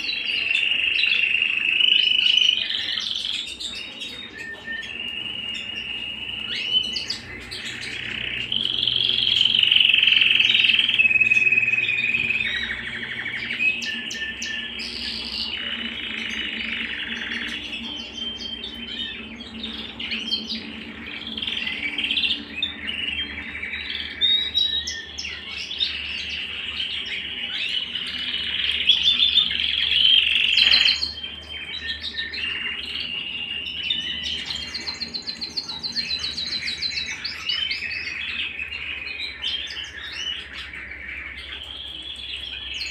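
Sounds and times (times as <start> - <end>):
canary singing trilled song: 0.0 - 42.9.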